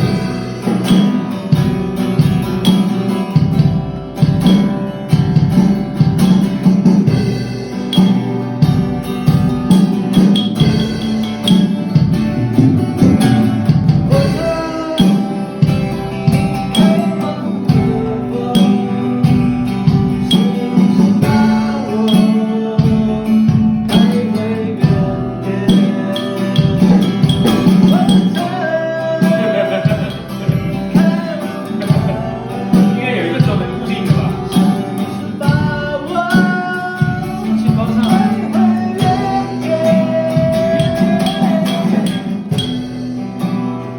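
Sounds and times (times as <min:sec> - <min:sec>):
band playing a song: 0:00.0 - 0:43.9.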